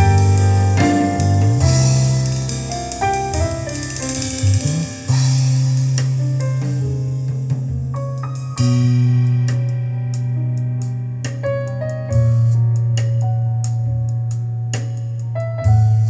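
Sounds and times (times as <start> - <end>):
deep held bass notes: 0.0 - 16.0
instrumental music over speakers: 0.0 - 16.0.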